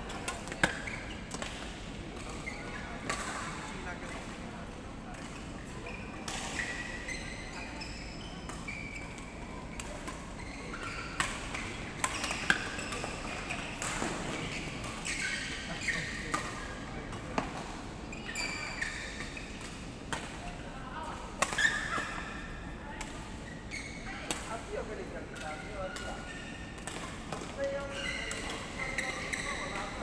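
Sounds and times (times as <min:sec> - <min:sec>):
shoes squeaking on court: 0:00.1 - 0:04.4, 0:05.1 - 0:30.0.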